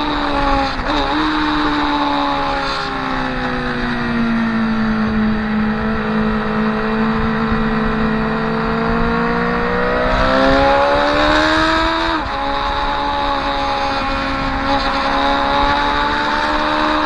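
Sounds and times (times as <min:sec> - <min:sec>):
motorcycle engine at high revs: 0:00.0 - 0:17.0
wind rush: 0:00.0 - 0:17.0.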